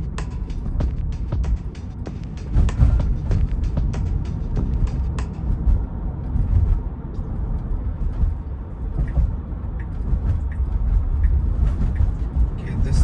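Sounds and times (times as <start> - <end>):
tyre and road rumble: 0.0 - 13.0.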